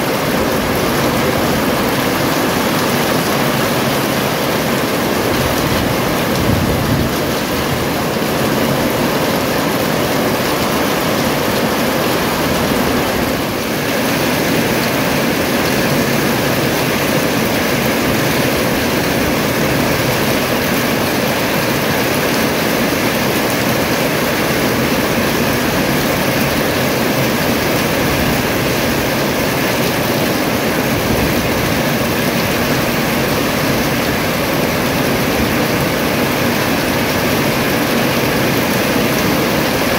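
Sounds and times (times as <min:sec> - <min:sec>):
steady rain falling: 0:00.0 - 0:39.9
water dripping off a roof: 0:00.0 - 0:39.9.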